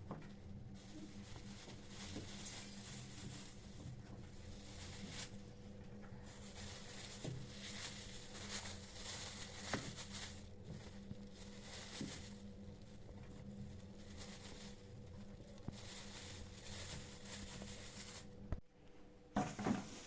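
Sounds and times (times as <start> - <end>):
soft rustling: 0.0 - 18.6
faint steady hum: 0.0 - 20.0.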